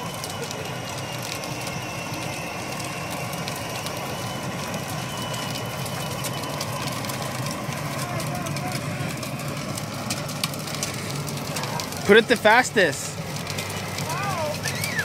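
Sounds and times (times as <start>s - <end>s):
electric motor hum: 0.0s - 15.0s
plastic wheels grinding on pavement: 0.0s - 15.0s.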